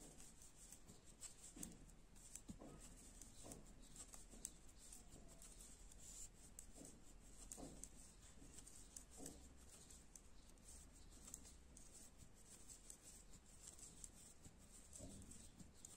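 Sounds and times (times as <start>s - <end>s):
knitting needles clicking: 0.0s - 15.9s
yarn rubbing: 0.0s - 15.9s.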